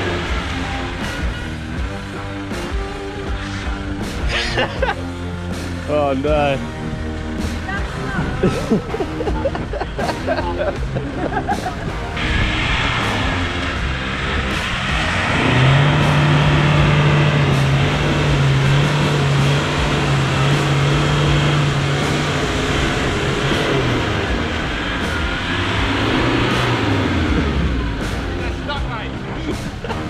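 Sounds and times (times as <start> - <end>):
vehicle engine under load: 0.0 - 4.3, 5.2 - 30.0.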